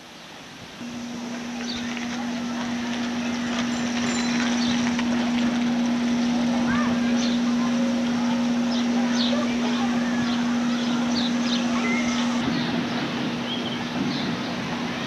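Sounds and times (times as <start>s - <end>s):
outdoor background noise: 0.0s - 15.0s
steady low hum: 0.6s - 15.0s
small birds chirping: 0.9s - 14.6s.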